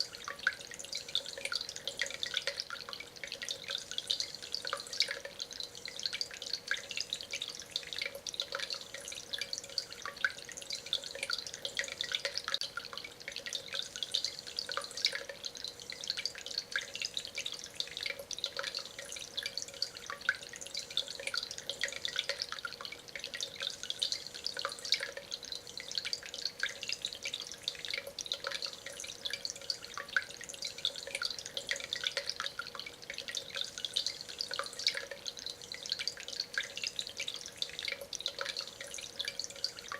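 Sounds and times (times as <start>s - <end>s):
water trickling over stone: 0.0s - 39.9s.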